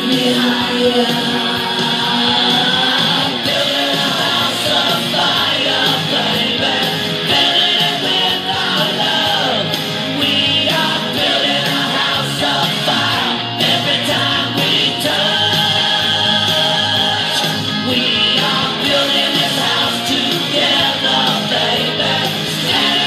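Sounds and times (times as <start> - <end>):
rock song with electric guitar: 0.0 - 23.0.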